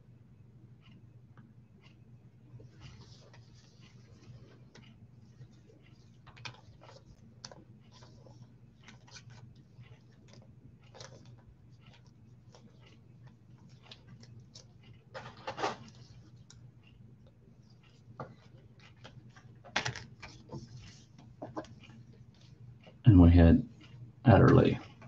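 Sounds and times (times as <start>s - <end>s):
faint low hum: 0.0s - 25.0s
light clicks and taps: 2.6s - 23.0s.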